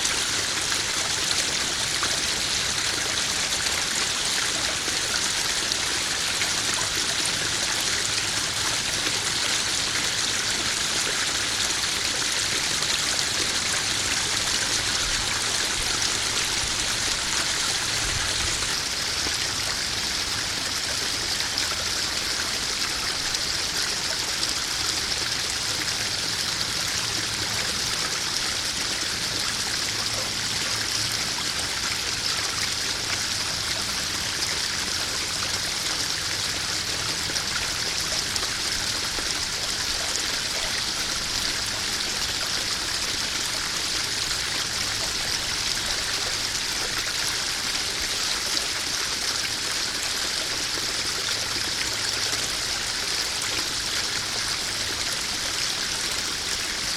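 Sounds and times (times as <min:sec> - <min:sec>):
water splashing and trickling: 0:00.0 - 0:56.9.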